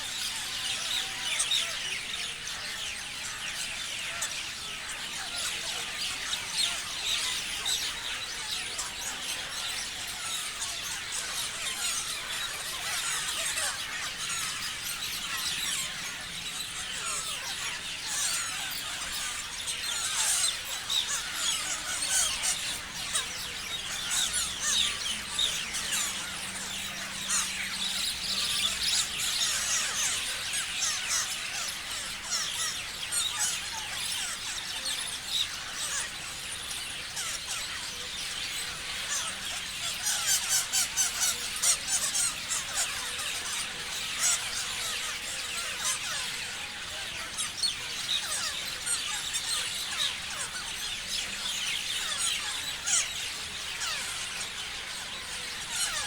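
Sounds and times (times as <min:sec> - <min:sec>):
parrots chirping: 0:03.6 - 0:34.9, 0:35.5 - 0:56.0.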